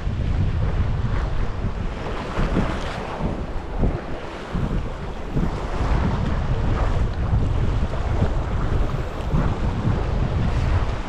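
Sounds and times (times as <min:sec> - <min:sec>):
waves washing: 0:00.0 - 0:11.0
wind buffeting microphone: 0:00.0 - 0:11.0.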